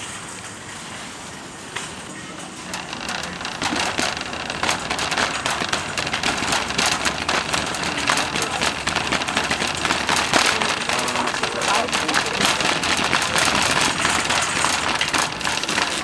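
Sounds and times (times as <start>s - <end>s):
shopping cart rattling: 0.0s - 16.0s.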